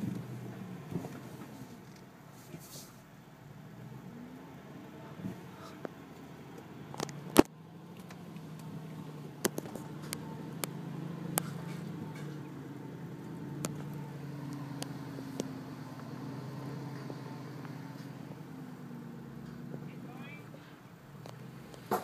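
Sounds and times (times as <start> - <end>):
car engine running at low speed: 0.0 - 22.0.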